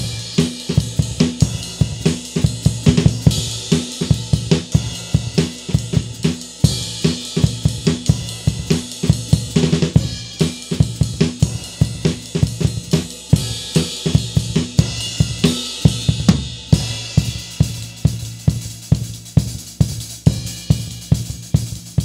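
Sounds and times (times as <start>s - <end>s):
cymbal crashes: 0.0s - 19.5s
hi-hat: 0.0s - 22.0s
snare drum: 0.0s - 22.0s.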